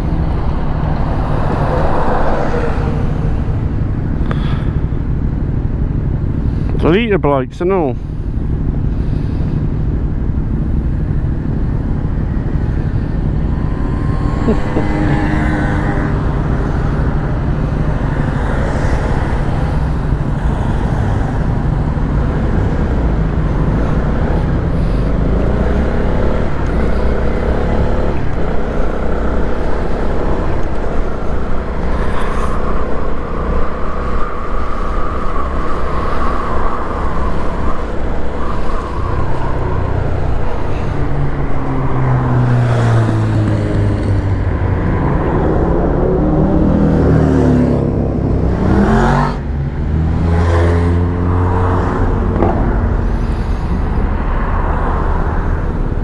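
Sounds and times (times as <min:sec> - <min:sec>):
traffic noise: 0:00.0 - 0:56.0
motorcycle engine revving: 0:08.4 - 0:54.4.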